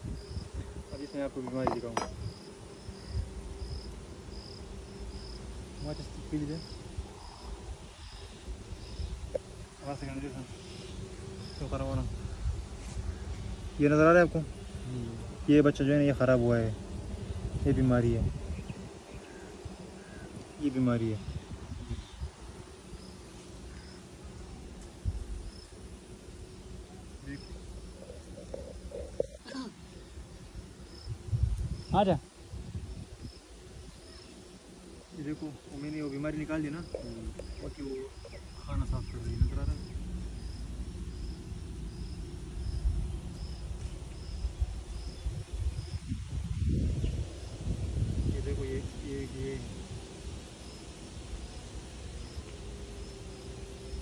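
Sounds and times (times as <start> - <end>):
honey bees humming: 0.0 - 54.0
insect chirping: 0.0 - 54.0.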